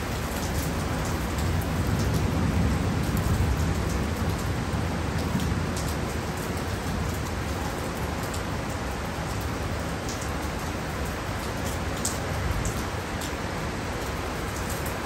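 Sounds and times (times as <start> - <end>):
heavy rain pouring: 0.0 - 15.0
raindrop ticks: 0.2 - 13.4.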